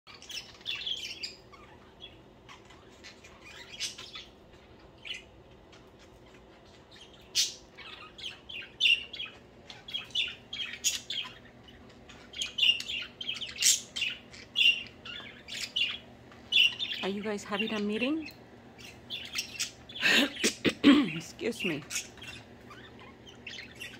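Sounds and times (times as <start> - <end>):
budgerigars chirping: 0.1 - 23.9.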